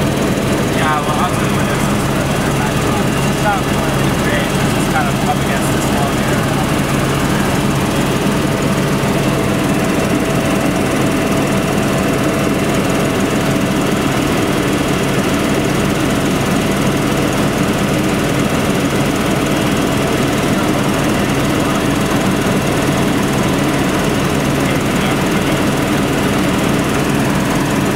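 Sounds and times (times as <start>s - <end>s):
aircraft engine droning: 0.0s - 27.9s.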